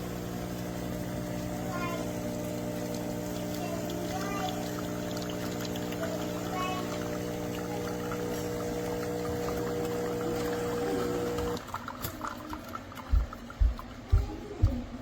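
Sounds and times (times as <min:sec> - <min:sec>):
espresso machine pump humming: 0:00.0 - 0:13.9
coffee pouring: 0:00.0 - 0:14.1.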